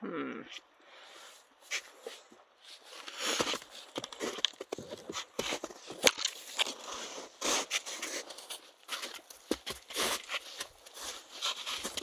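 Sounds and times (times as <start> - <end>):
footsteps crunching on snow and twigs: 1.4 - 12.0.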